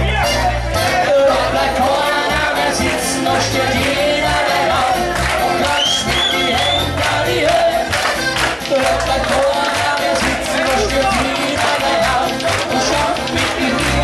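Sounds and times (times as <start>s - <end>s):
bass line: 0.0s - 14.0s
crowd voices: 0.0s - 14.0s
live band playing: 0.0s - 14.0s
person singing: 0.8s - 14.0s.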